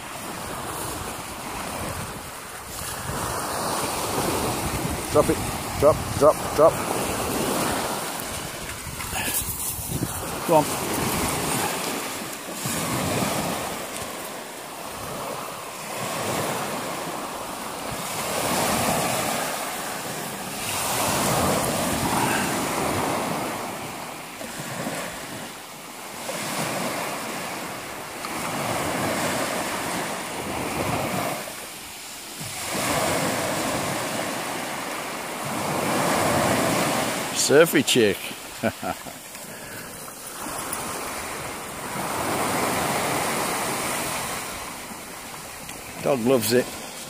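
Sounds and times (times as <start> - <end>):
sea waves breaking on shore: 0.0 - 47.0.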